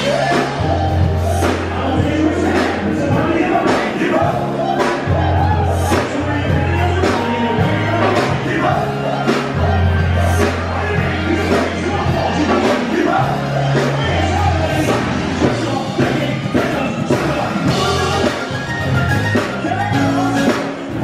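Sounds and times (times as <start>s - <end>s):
bass line: 0.0s - 21.0s
live band playing: 0.0s - 21.0s
person singing: 0.0s - 21.0s.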